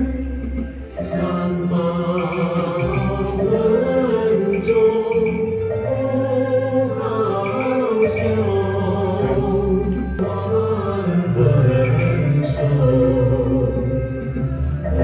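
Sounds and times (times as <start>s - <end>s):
chanted singing with music: 0.0s - 15.0s.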